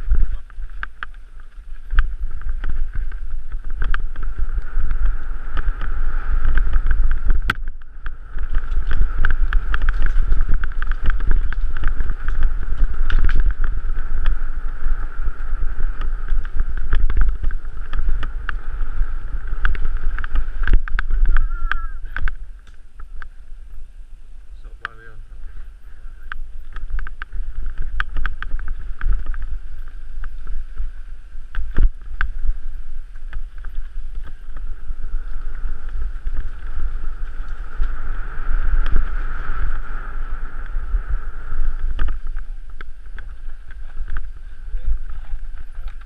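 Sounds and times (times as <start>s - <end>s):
bike rattling clicks: 0.0s - 23.3s, 26.2s - 40.8s
wind buffeting microphone: 0.0s - 46.0s.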